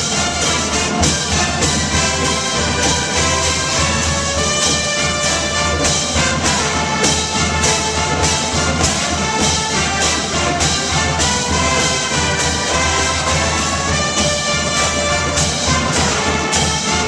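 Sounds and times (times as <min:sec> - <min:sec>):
drum hits: 0:00.0 - 0:17.0
marching band playing: 0:00.0 - 0:17.0.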